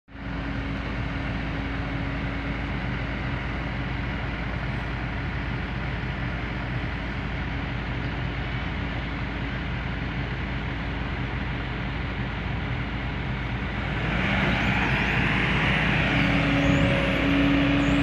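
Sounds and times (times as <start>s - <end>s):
excavator diesel engine idling: 0.2s - 18.0s.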